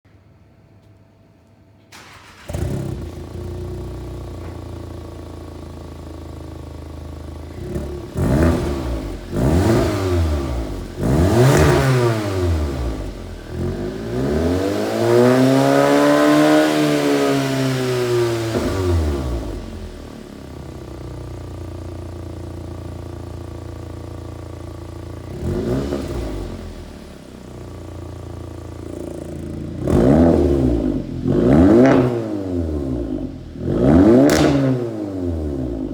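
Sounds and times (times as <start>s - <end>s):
car engine starting and revving: 1.9s - 35.9s.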